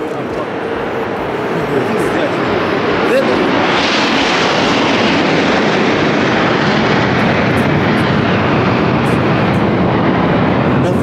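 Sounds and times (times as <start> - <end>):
fighter jets roaring overhead: 0.0 - 11.0.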